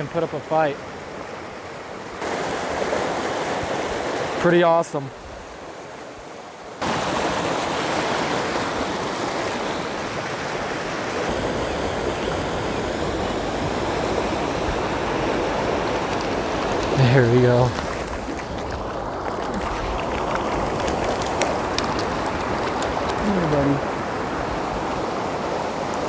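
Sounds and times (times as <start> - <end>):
mountain stream rushing over rocks: 2.1 - 5.0, 6.8 - 26.0.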